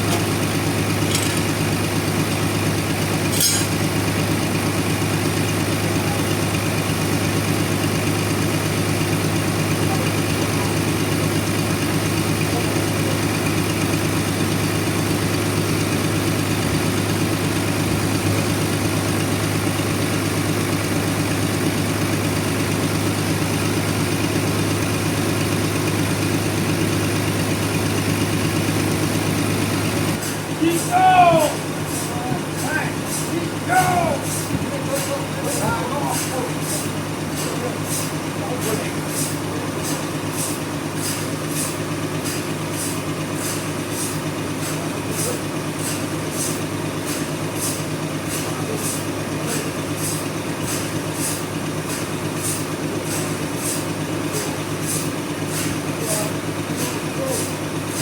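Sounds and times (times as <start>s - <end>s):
sawmill machinery drone: 0.0s - 58.0s.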